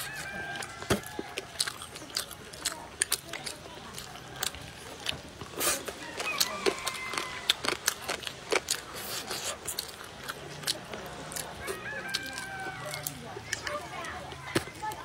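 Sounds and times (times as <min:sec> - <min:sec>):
chewing mouth sounds: 0:00.0 - 0:13.8.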